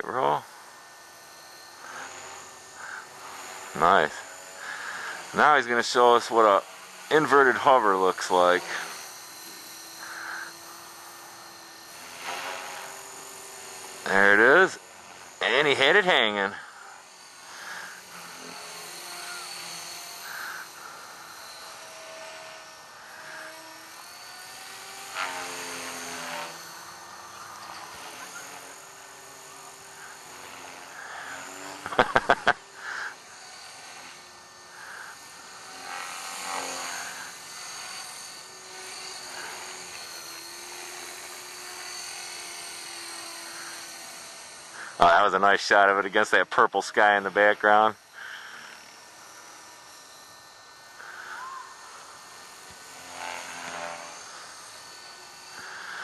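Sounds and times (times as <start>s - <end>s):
rc helicopter motor whining: 0.0s - 56.0s.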